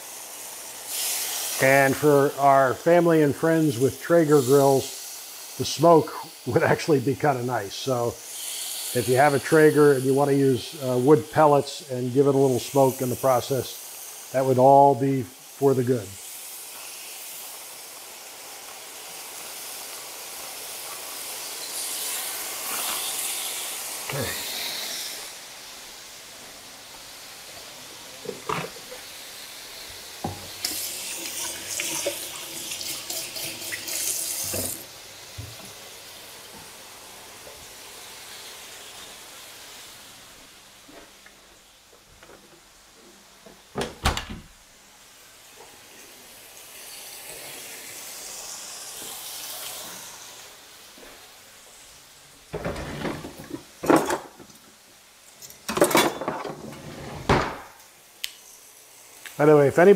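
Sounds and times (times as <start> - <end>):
chicken sizzling on a grill: 0.0 - 41.9, 44.9 - 55.8, 57.9 - 59.9.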